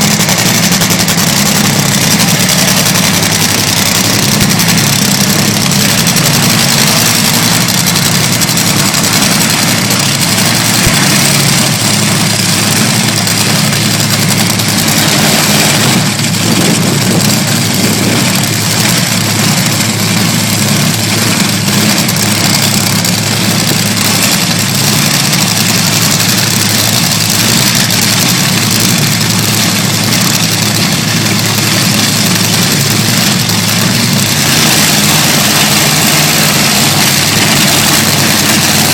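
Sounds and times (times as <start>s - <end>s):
dragster engine idling loudly: 0.0s - 38.9s.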